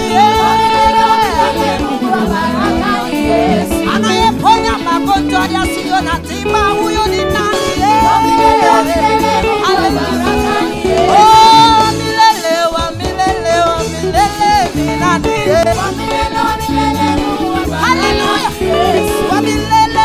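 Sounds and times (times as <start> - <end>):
backing singers: 0.0 - 20.0
upbeat instrumental music: 0.0 - 20.0
woman singing lead vocal: 0.0 - 20.0.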